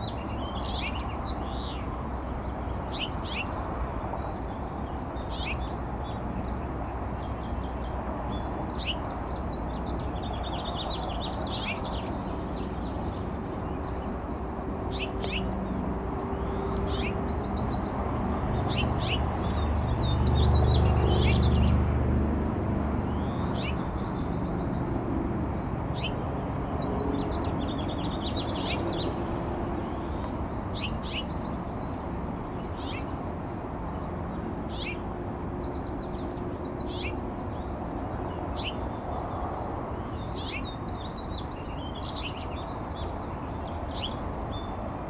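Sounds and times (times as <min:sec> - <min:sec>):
birds chirping and trilling: 0:00.0 - 0:03.6, 0:04.2 - 0:22.1, 0:22.8 - 0:25.0, 0:25.9 - 0:45.0.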